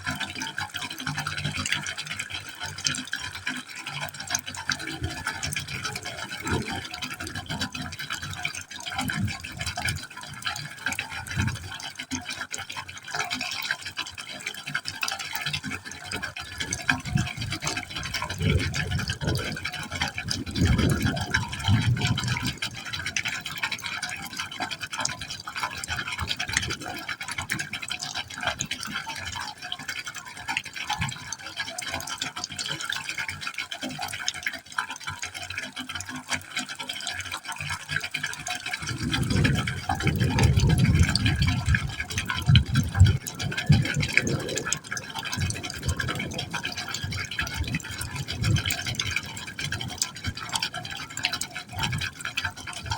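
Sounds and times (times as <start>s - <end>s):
low gurgles: 0.0s - 52.9s
water splashing into pipe: 0.0s - 52.9s.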